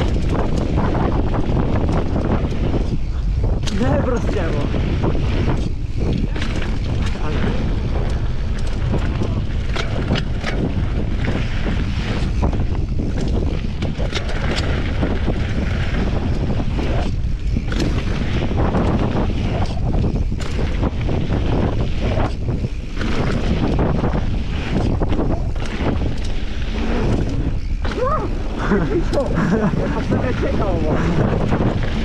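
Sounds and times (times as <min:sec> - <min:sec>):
bike tyres crunching on gravel: 0:00.0 - 0:32.0
wind buffeting microphone: 0:00.0 - 0:32.0.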